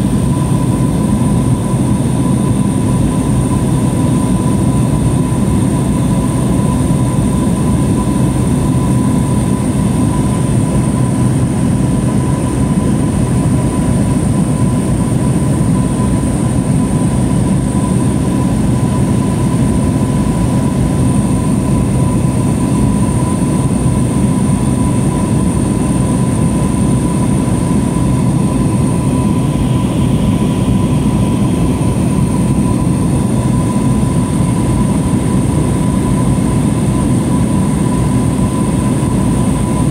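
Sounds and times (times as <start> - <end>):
propeller plane cabin drone: 0.0 - 39.9
thin steady whine: 0.0 - 39.9.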